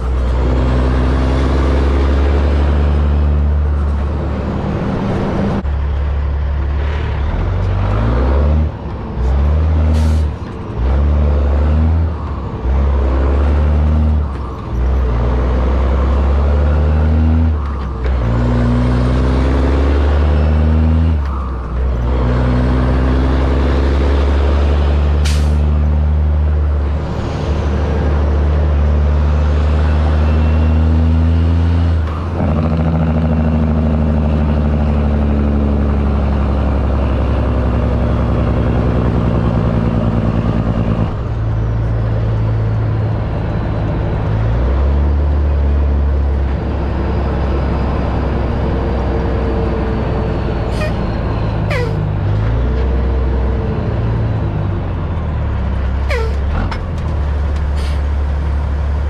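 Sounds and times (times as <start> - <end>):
diesel truck engine shifting gears: 0.0 - 59.0.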